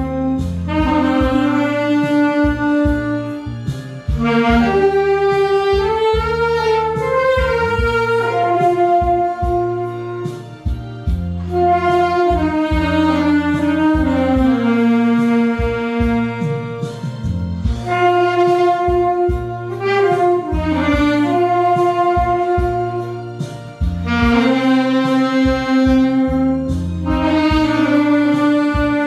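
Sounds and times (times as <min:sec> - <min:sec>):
backing track bass and drums: 0:00.0 - 0:29.0
saxophone slow melody: 0:00.0 - 0:29.0.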